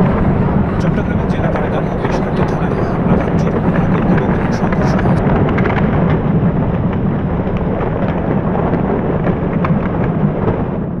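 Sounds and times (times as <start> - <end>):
loud rumbling din: 0.0 - 11.0
short crackles and clicks: 0.8 - 10.9.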